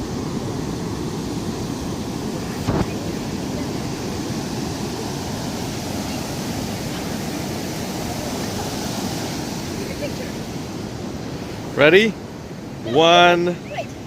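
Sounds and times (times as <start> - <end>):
ocean surf: 0.0 - 14.0
wind: 0.0 - 14.0.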